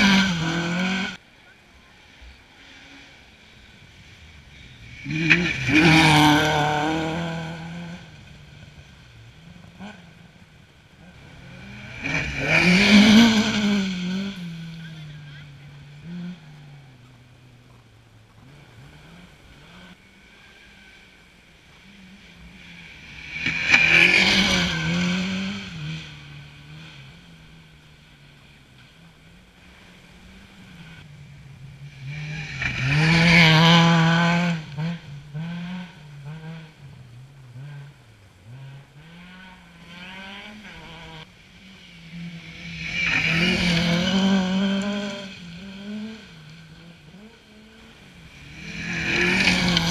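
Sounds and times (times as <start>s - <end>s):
distant engine sound: 0.0s - 49.9s
rally cars passing at speed: 0.0s - 49.9s.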